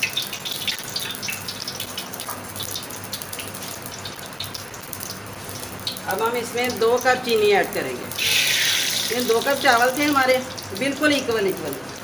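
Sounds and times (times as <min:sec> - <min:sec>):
ghee sizzling in a pot: 0:00.0 - 0:12.0.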